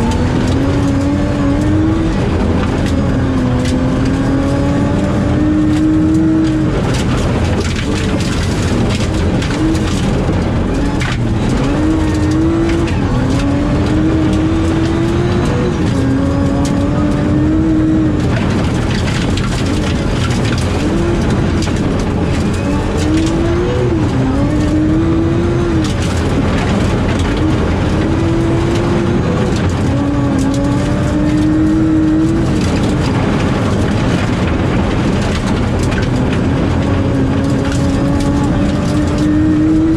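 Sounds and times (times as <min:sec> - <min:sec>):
car engine revving: 0:00.0 - 0:39.9
gravel rattling against car underside: 0:00.0 - 0:39.9.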